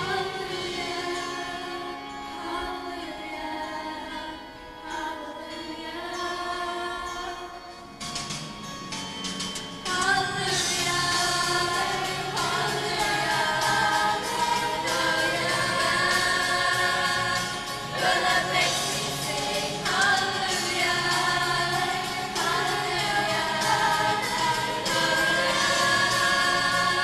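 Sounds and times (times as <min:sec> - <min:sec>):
school choir singing: 0:00.0 - 0:07.6, 0:09.9 - 0:27.0.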